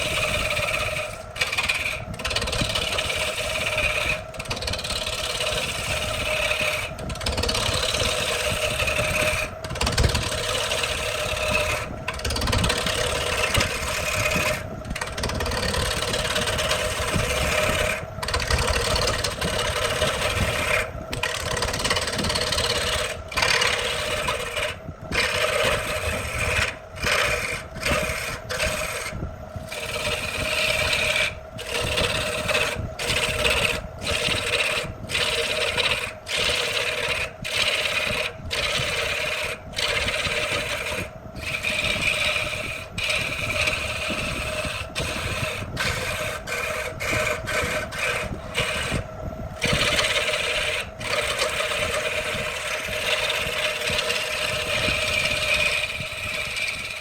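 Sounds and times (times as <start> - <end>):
power tool motor hum: 0.0 - 57.0
tool rasping wood: 0.0 - 57.0.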